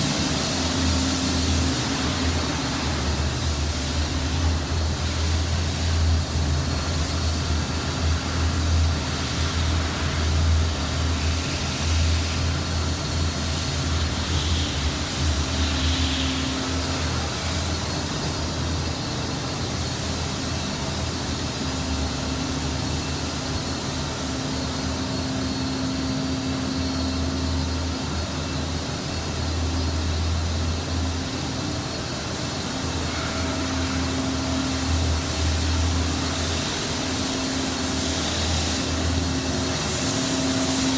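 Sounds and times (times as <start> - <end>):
boiler rushing noise: 0.0 - 40.9.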